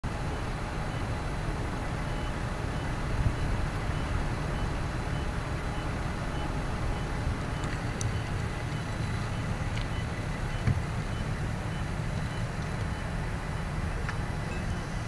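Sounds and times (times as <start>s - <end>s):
fire engine idling: 0.0s - 15.0s.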